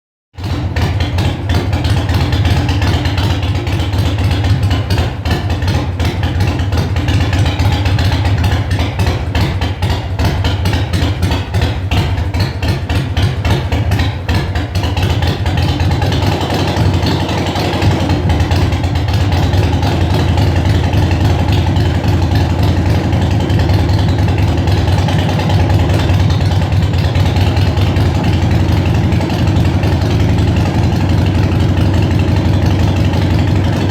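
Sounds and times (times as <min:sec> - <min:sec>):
motorcycle engine idling: 0:00.4 - 0:33.9.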